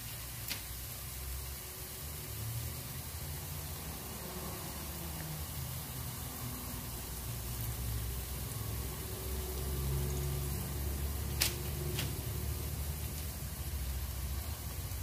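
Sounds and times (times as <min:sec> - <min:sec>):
hash browns sizzling in oil: 0:00.0 - 0:15.0.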